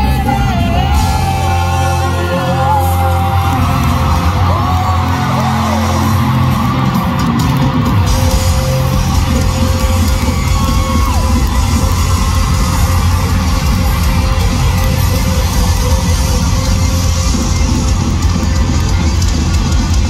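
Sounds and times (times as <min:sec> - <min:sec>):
crowd yelling: 0:00.0 - 0:20.0
live pop-rock band: 0:00.0 - 0:20.0.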